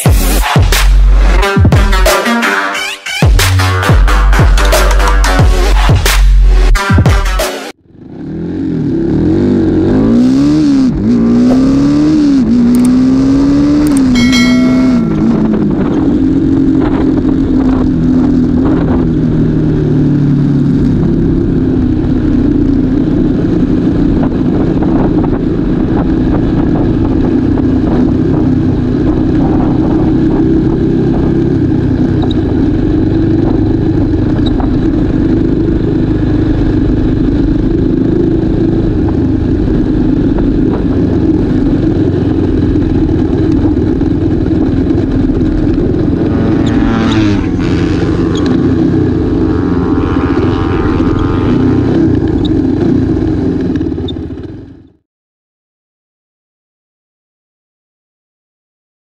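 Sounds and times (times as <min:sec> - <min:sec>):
motorcycle engine accelerating: 0:07.8 - 0:55.0.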